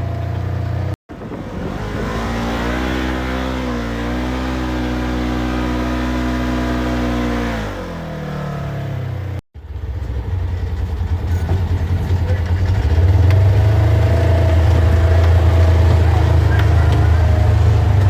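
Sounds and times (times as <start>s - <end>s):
low pulsing engine: 0.0s - 18.0s
off-road vehicle engine revving: 0.0s - 18.0s.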